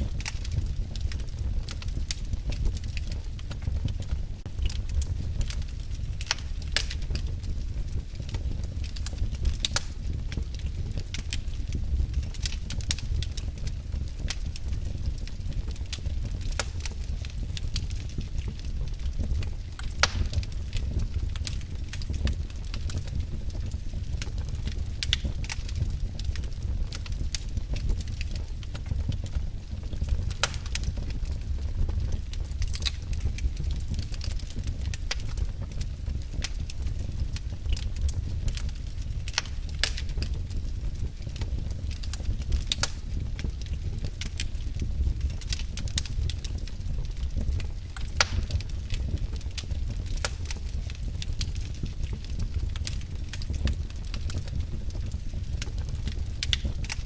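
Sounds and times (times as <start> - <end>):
low rumble of burning: 0.0 - 57.0
wood fire crackling: 0.0 - 57.0.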